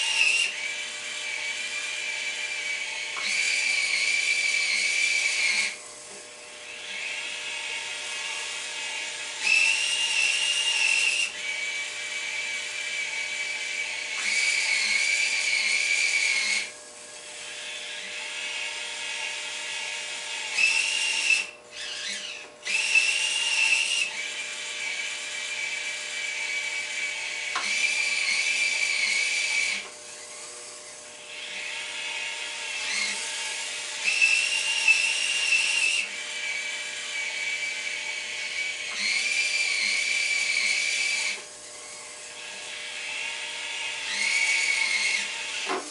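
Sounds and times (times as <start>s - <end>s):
electric winch motors whining: 0.0s - 45.9s.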